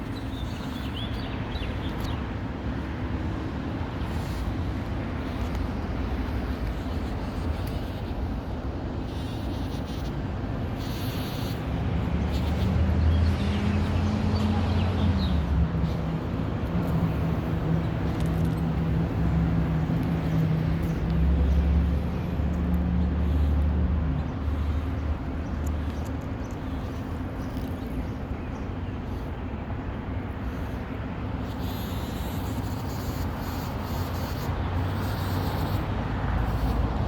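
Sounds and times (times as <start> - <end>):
bumblebees buzzing: 4.0 - 28.3, 30.4 - 37.0.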